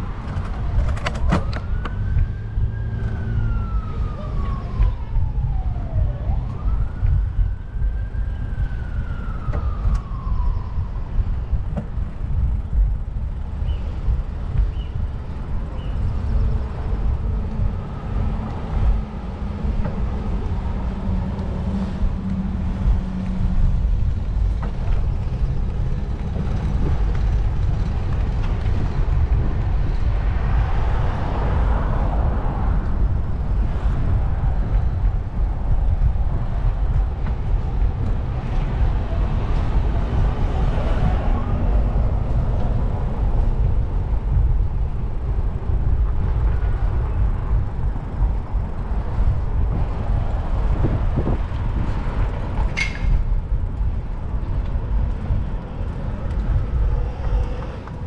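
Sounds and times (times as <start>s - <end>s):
road noise: 0.0s - 58.0s
wind rumble on microphone: 0.0s - 58.0s.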